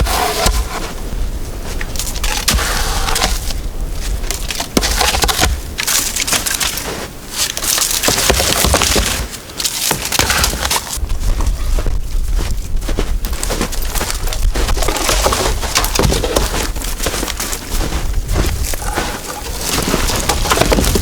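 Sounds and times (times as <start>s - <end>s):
dry wood crunching and snapping: 1.7s - 11.3s, 12.3s - 21.0s.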